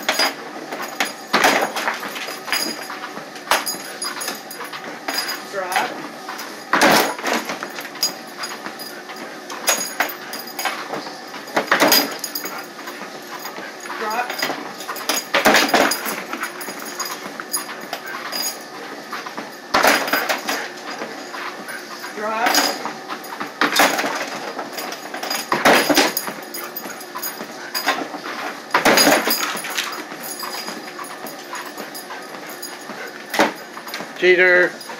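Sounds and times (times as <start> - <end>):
treadmill knocking and clattering: 0.0 - 34.9.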